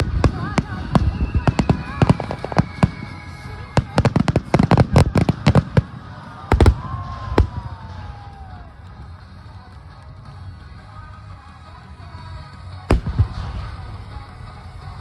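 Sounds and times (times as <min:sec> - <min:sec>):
fireworks bangs and crackles: 0:00.0 - 0:10.3, 0:12.6 - 0:15.0.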